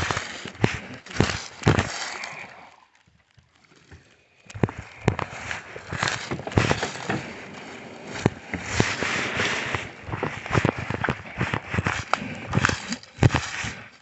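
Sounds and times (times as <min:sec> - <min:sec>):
footsteps on shore: 0:00.0 - 0:03.0, 0:03.8 - 0:14.0
person pushing through brush: 0:00.0 - 0:14.0.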